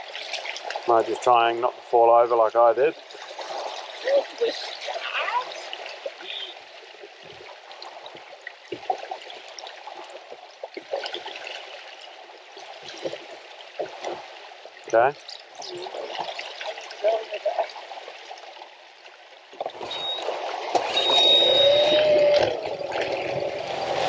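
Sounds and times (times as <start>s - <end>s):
spring water trickling over rocks: 0.0s - 21.0s.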